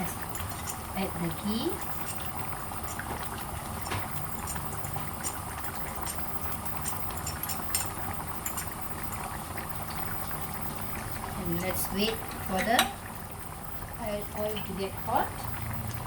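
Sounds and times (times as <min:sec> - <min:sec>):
food bubbling and hissing: 0:00.0 - 0:16.0.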